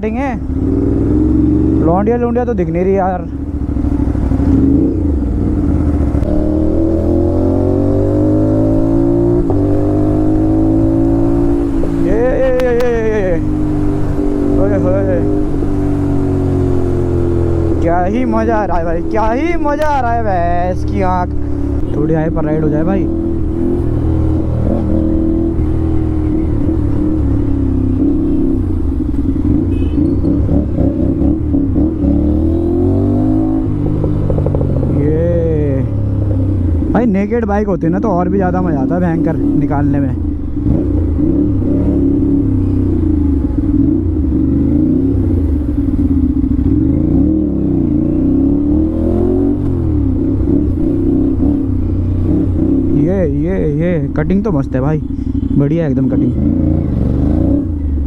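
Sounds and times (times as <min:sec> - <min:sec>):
motorcycle engine accelerating: 0:00.1 - 0:58.0.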